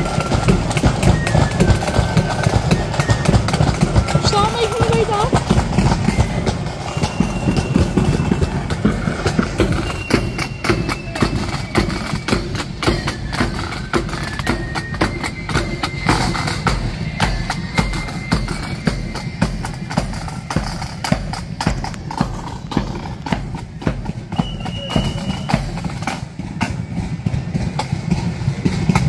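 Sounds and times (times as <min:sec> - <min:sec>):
bass drum beat: 0:00.0 - 0:14.2, 0:18.5 - 0:29.0
flute melody: 0:00.0 - 0:28.9
side drums: 0:00.0 - 0:29.0.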